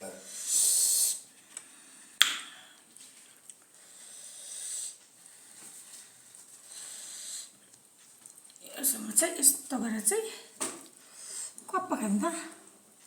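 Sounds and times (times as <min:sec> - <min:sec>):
soft breathy hiss: 0:00.0 - 0:07.8, 0:08.6 - 0:11.7.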